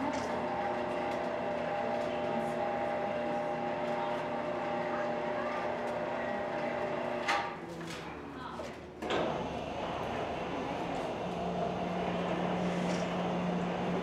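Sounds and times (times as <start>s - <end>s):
machine lift droning: 0.0s - 8.2s, 9.0s - 14.0s.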